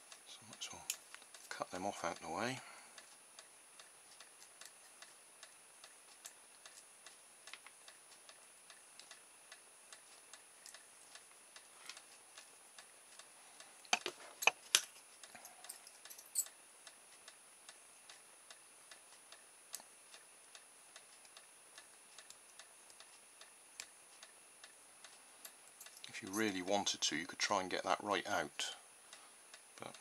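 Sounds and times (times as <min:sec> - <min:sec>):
steady light ticking: 0:00.0 - 0:14.0, 0:15.2 - 0:27.2.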